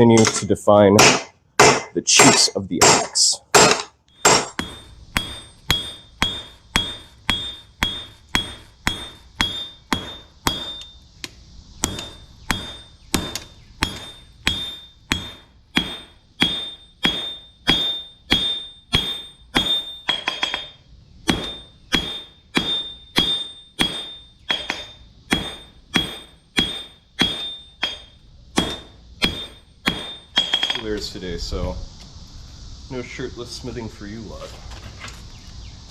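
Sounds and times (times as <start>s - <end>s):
hammer striking hot metal on anvil: 0.2s - 11.0s, 11.8s - 30.9s.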